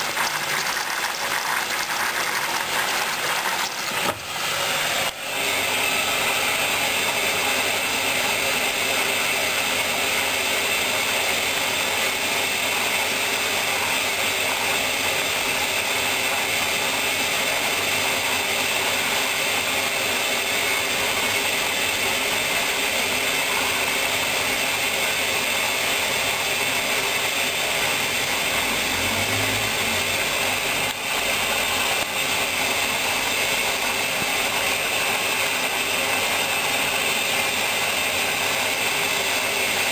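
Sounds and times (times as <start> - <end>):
washing machine whirring: 0.0 - 39.9.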